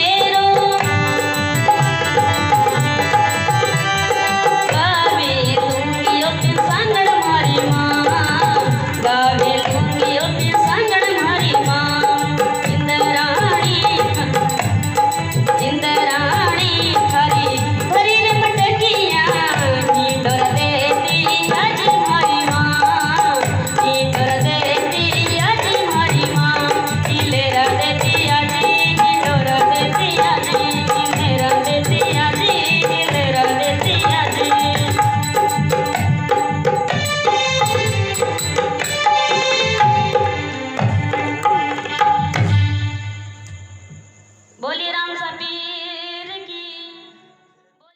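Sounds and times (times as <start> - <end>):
woman singing: 0.0 - 40.4, 44.6 - 47.9
hand drum percussion: 0.0 - 42.7.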